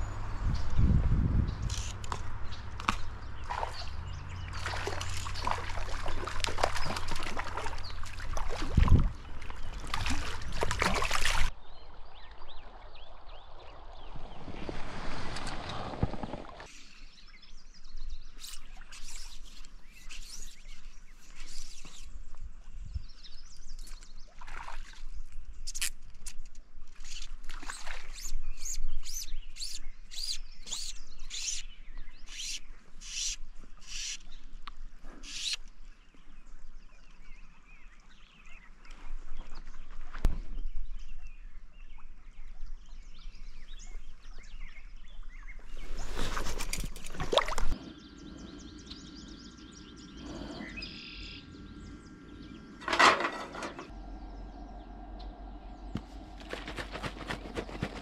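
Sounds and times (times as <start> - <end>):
songbirds calling: 0.0 - 14.8, 15.6 - 58.0.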